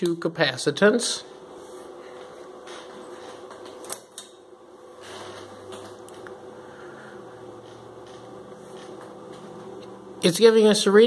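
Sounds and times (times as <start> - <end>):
cooling fan humming: 0.0 - 11.0.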